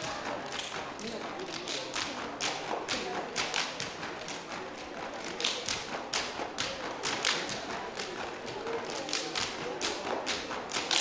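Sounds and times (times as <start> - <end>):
rhythmic slapping and clapping: 0.0 - 11.0.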